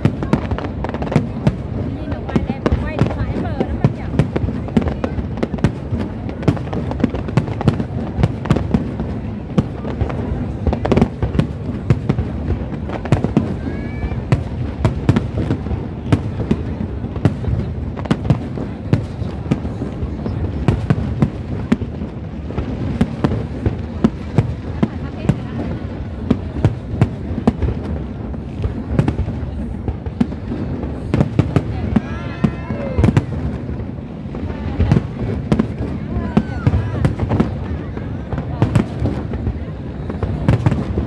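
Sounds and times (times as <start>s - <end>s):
fireworks bangs and cracks: 0.0s - 41.0s.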